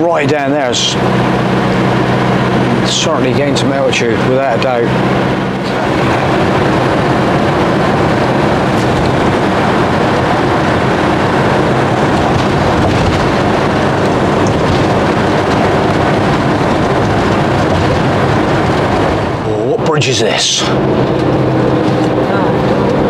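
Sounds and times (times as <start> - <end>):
low engine hum: 0.0 - 23.0
road noise rushing: 0.0 - 23.0.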